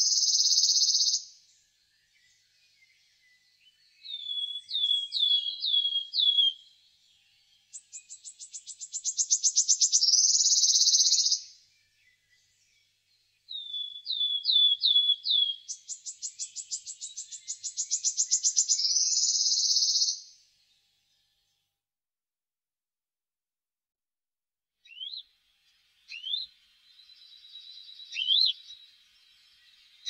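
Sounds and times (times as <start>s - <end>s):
bird singing trill: 0.0s - 21.8s, 24.8s - 30.0s.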